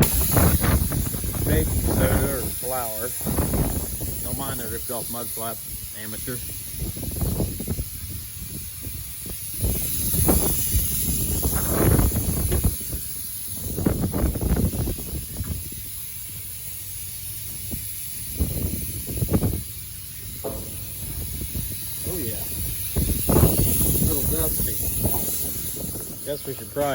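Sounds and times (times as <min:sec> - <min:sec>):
wind buffeting the microphone: 0:00.0 - 0:16.0, 0:17.6 - 0:26.9
steady high hiss: 0:00.0 - 0:26.9.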